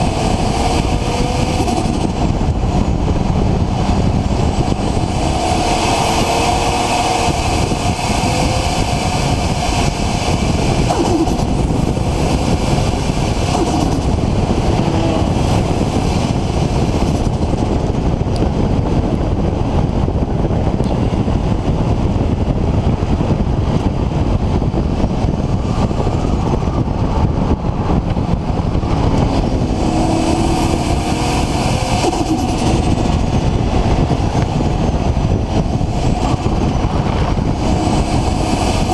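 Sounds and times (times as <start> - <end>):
loud engine and exhaust rush: 0.0 - 38.9.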